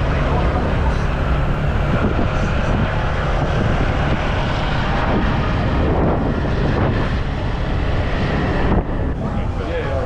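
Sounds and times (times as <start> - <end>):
city traffic: 0.0 - 10.0
motorbike road noise: 0.0 - 10.0
wind on microphone: 0.0 - 10.0.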